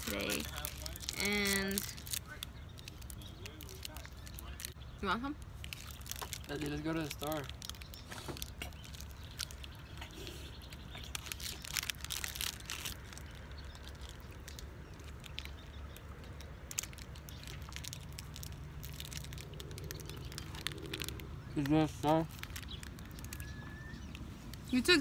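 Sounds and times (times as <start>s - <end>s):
snack wrapper rustling: 0.0s - 4.8s, 5.4s - 24.7s
steady low rumble: 0.0s - 25.0s.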